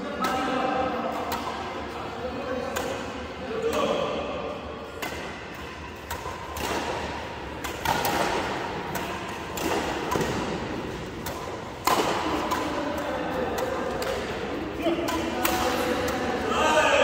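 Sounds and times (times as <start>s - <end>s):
rackets hitting shuttlecock: 0.0s - 2.0s, 2.6s - 16.5s
background murmur: 0.0s - 17.0s.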